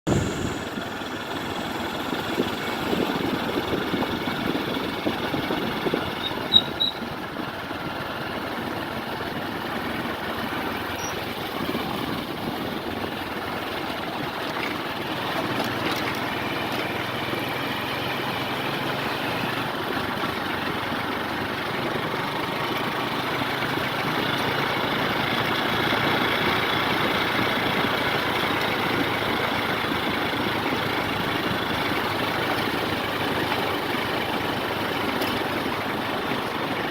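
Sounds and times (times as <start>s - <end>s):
motorbike engine running: 0.1s - 36.9s.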